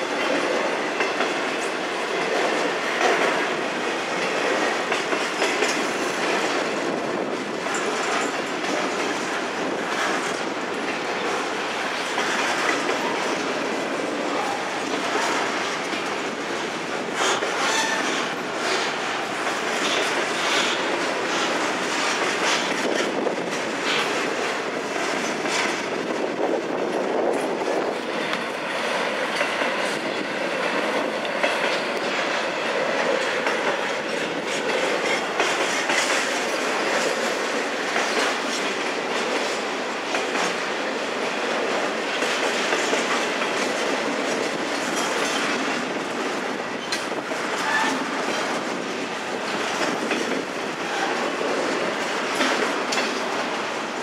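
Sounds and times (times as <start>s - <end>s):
freight train rolling past: 0.0s - 54.0s
wheels clickety-clack: 0.0s - 54.0s.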